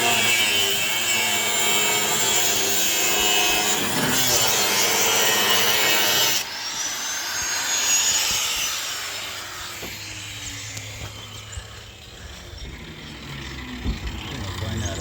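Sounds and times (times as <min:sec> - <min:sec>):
power tool cutting bolts: 0:00.0 - 0:15.0
tool winding down whine: 0:00.0 - 0:15.0.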